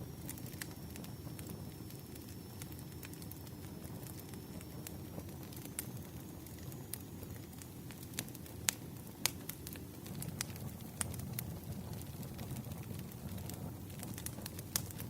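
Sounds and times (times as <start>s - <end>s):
burning logs rumbling: 0.0s - 15.0s
fire popping and snapping: 0.0s - 15.0s.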